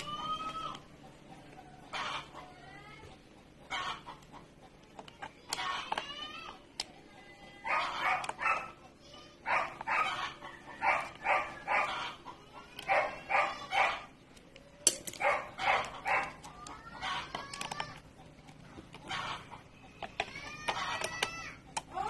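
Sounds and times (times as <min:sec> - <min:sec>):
chickens clucking: 0:00.0 - 0:06.2, 0:07.0 - 0:22.0.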